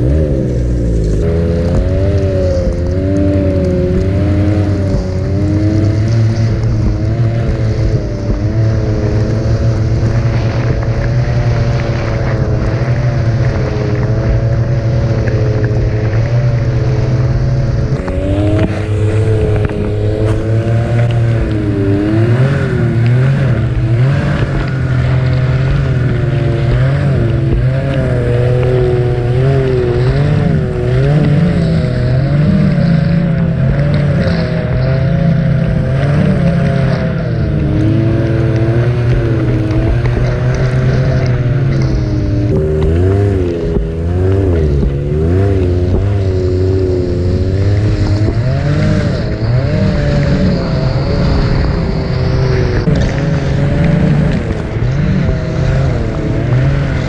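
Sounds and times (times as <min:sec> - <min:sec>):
snowmobile engine under load: 0:00.0 - 0:57.0.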